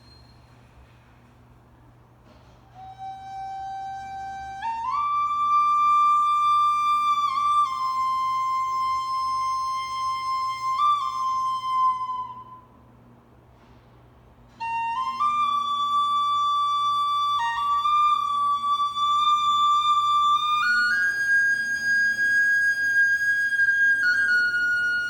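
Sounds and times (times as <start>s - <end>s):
slow flute-like melody: 2.7s - 12.9s, 14.5s - 25.0s.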